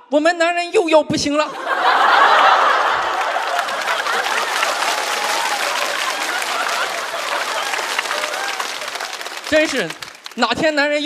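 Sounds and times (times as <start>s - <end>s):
audience applauding: 1.6s - 10.7s.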